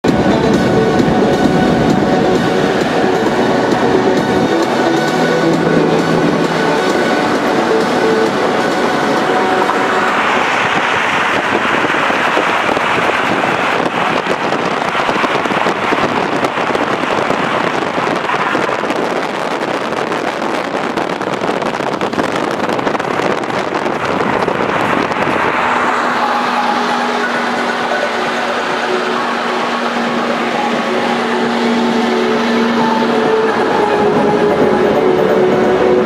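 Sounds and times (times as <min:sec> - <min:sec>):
highway road noise of cars: 0:00.0 - 0:36.0
wind buffeting microphone: 0:00.0 - 0:36.0.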